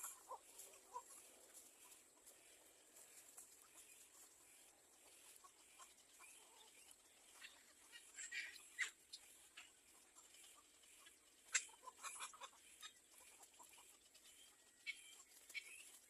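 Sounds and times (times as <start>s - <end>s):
faint bird calls: 0.0s - 16.0s.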